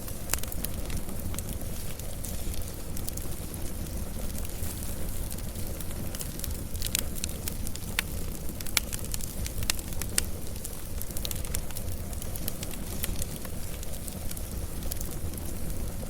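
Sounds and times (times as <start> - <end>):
fire crackling and popping: 0.0 - 16.0
flames rumbling: 0.0 - 16.0.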